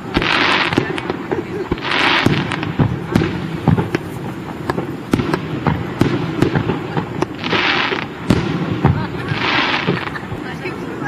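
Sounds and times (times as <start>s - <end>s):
fireworks bangs: 0.0s - 11.0s
hissing crackle of fireworks: 0.0s - 11.0s.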